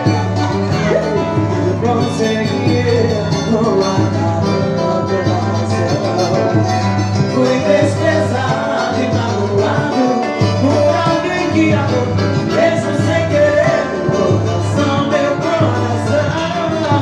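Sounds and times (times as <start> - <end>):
latin american band playing: 0.0 - 17.0
person singing: 0.0 - 17.0
repeating bass line: 0.0 - 17.0.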